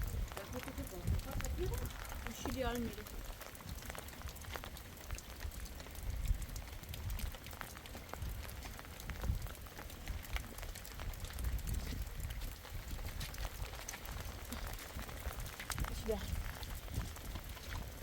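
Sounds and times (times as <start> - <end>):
rain hiss: 0.0 - 18.0
raindrops ticking on a surface: 0.0 - 18.0.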